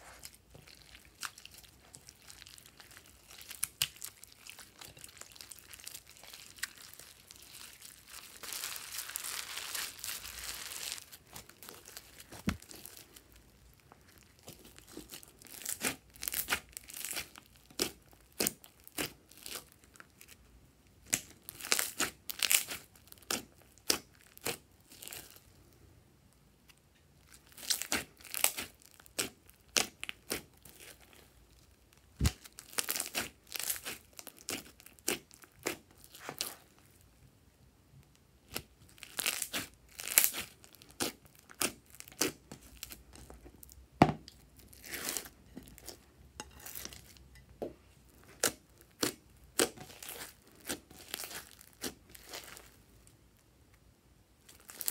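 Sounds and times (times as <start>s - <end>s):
slime with foam beads crackling: 0.0s - 25.6s, 27.2s - 37.1s, 38.4s - 47.2s, 47.9s - 53.4s, 54.4s - 54.9s.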